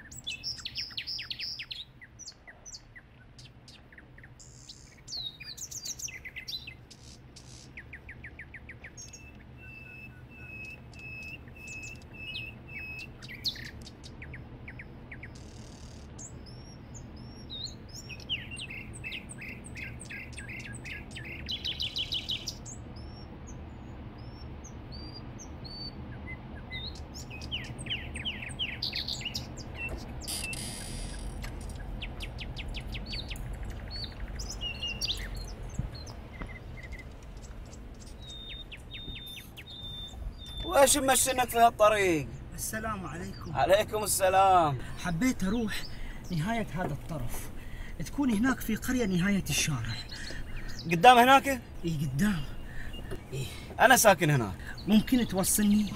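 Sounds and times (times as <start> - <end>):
birds chirping and whistling: 0.0 - 55.9
vehicle engine rumble: 1.7 - 55.9.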